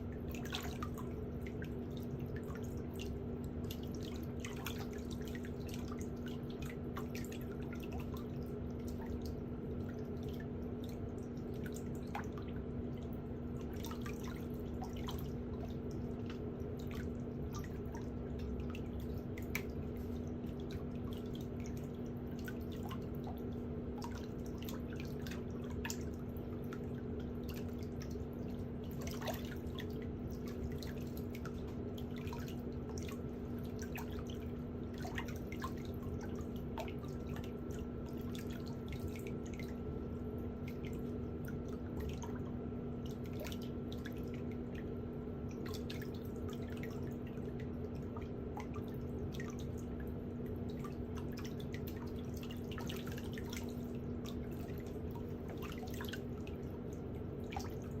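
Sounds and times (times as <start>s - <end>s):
low electric hum: 0.0s - 58.0s.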